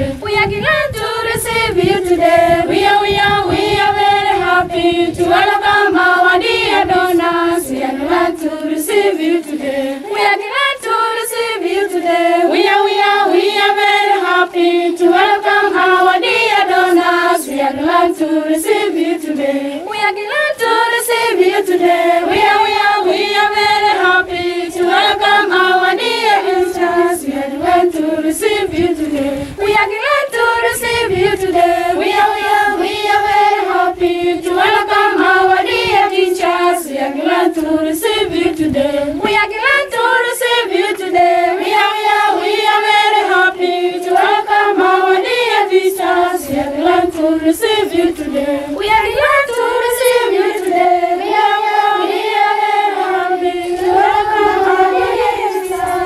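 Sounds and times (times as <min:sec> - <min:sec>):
girls singing in unison: 0:00.0 - 0:56.0.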